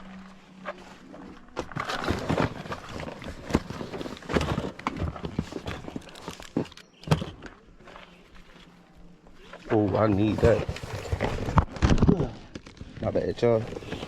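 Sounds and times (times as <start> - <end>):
camping gear clattering and rustling: 0.0 - 14.0.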